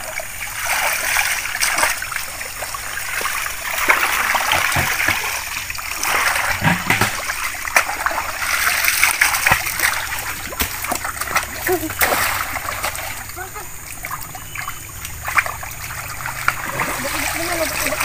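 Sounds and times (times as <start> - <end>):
baskets scooping water: 0.0 - 18.0
water splashing and sloshing: 0.0 - 18.0.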